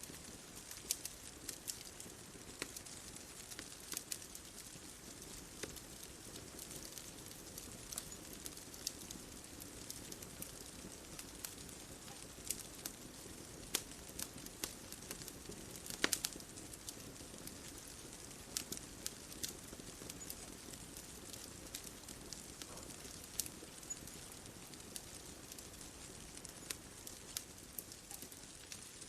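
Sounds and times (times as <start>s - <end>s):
bonfire crackling: 0.0s - 29.0s.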